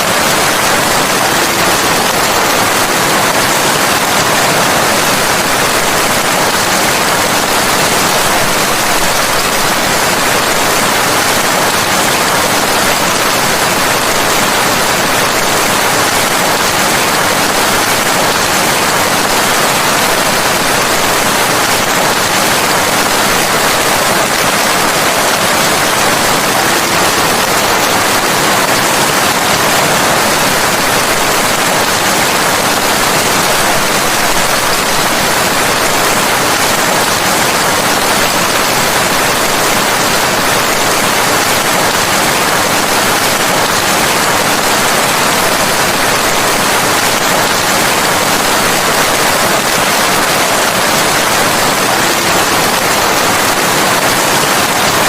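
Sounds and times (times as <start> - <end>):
steady dense rain: 0.0 - 55.0.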